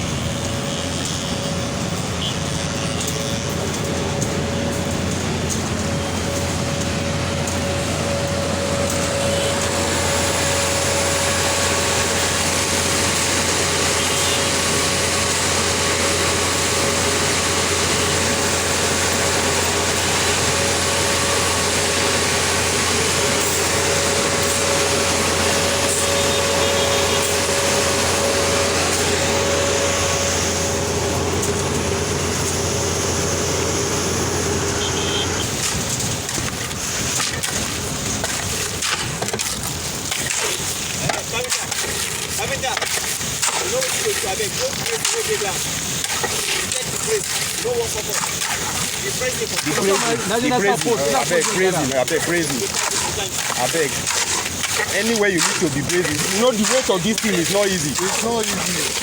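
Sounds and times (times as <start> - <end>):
concrete mixer pump running: 0.0 - 59.0.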